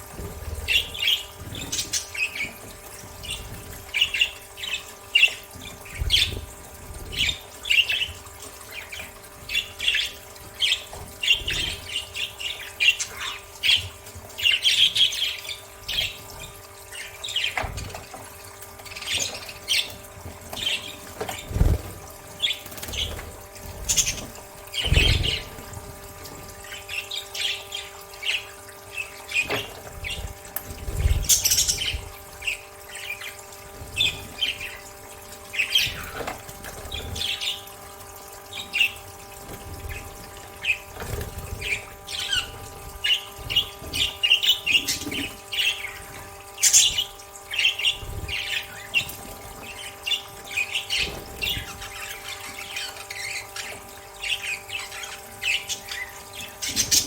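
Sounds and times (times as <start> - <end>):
budgerigars chirping and chattering: 0.0 - 18.2, 18.8 - 37.8, 38.4 - 57.0.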